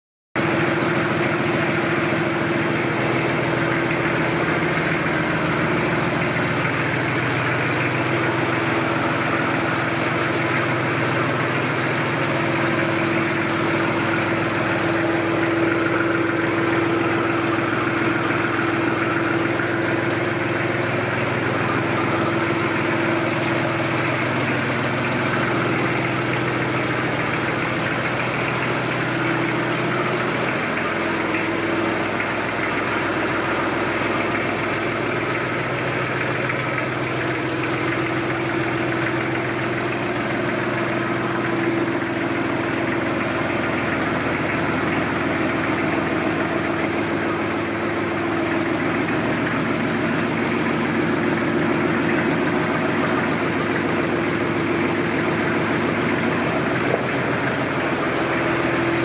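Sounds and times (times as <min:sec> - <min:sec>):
tractor engine idling: 0:00.4 - 0:59.0.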